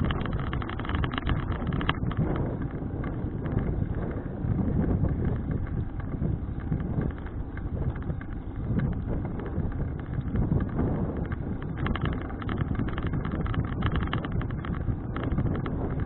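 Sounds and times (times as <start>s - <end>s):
bicycle rumble on road: 0.0s - 16.0s
rapid clicks and rattles: 0.0s - 16.0s
wind buffeting microphone: 0.0s - 16.0s.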